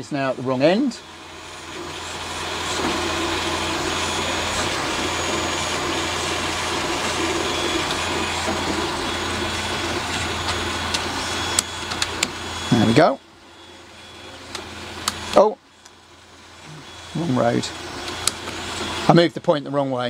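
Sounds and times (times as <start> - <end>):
small electric motor whirring: 0.2 - 19.3.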